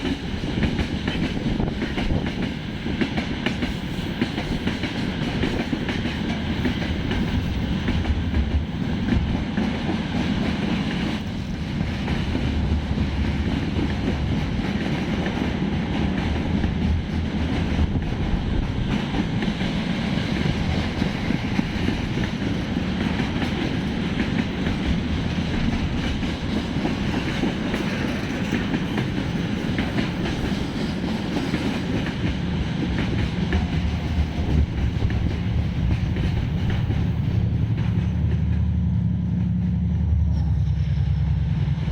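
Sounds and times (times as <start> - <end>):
rumble of train wheels on rails: 0.0 - 41.9.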